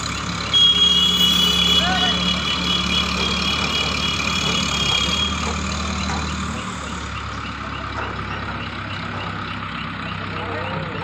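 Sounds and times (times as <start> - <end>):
crane diesel engine running: 0.0 - 11.0.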